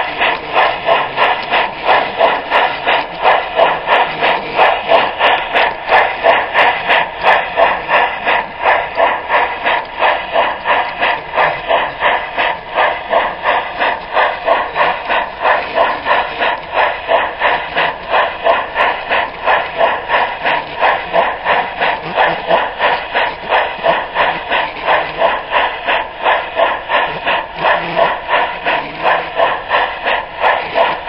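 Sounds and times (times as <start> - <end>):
model steam locomotive chuffing: 0.0 - 31.0.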